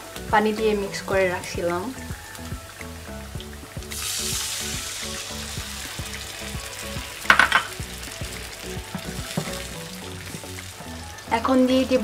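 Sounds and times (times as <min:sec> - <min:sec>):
liquid sizzling in hot pan: 0:00.0 - 0:12.0.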